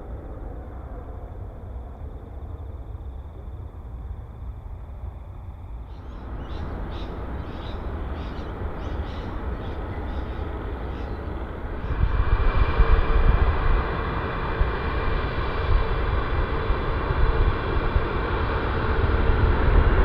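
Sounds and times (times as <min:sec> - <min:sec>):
jet engine rumble: 0:00.0 - 0:20.0
jet engine whine: 0:00.0 - 0:20.0.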